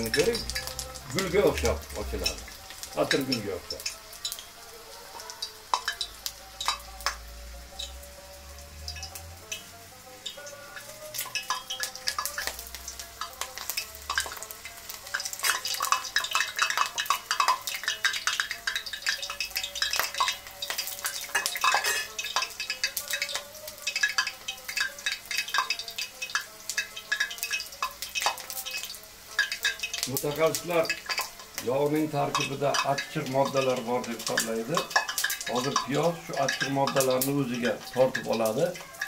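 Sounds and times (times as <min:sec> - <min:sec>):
oil sizzling and popping: 0:00.0 - 0:39.0.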